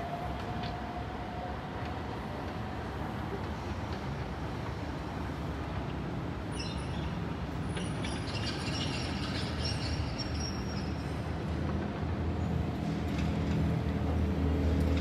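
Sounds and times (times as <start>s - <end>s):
train rumbling over rails: 0.0s - 15.0s.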